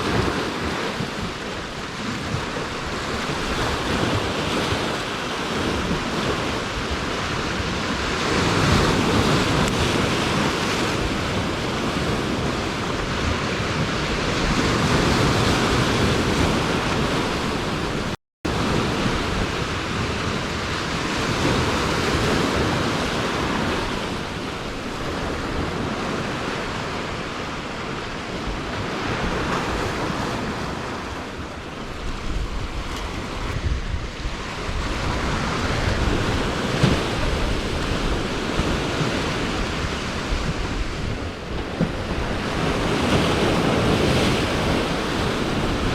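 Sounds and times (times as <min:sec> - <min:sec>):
sea waves washing: 0:00.0 - 0:45.9
wind buffeting microphone: 0:00.0 - 0:45.9.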